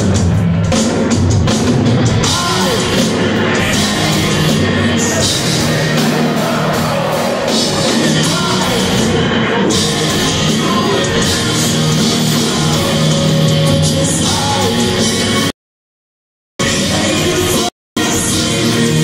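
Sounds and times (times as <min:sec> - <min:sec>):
live rock band playing loudly: 0:00.0 - 0:15.5, 0:16.6 - 0:19.0.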